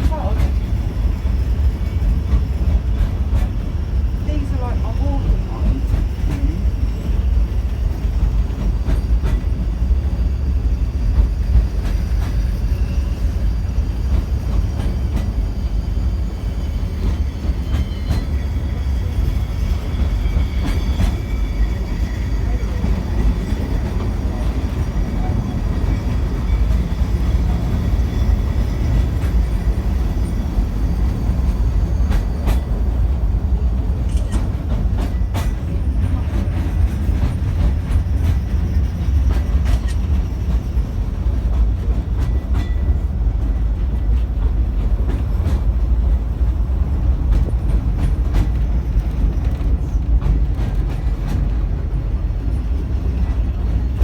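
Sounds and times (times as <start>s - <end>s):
tram car rumbling on track: 0.0s - 54.0s.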